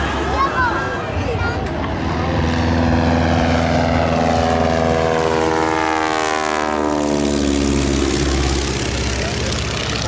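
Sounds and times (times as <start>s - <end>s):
propeller airplane passing: 0.0s - 10.0s.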